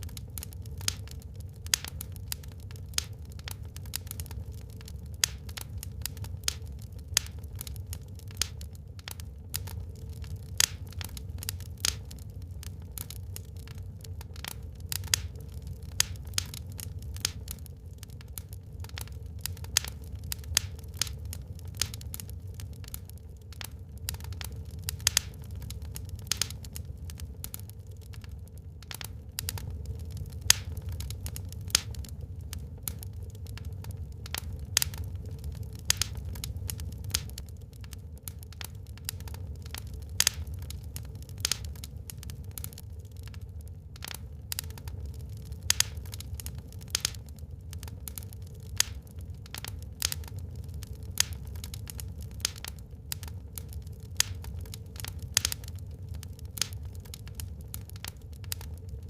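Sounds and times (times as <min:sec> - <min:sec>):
low steady rumble: 0:00.0 - 0:59.0
wood fire crackling: 0:00.0 - 0:59.0.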